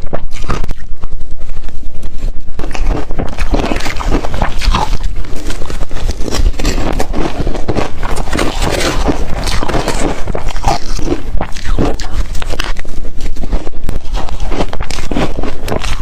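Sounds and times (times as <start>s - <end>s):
ice crunching being chewed: 0.0s - 1.2s, 2.5s - 16.0s.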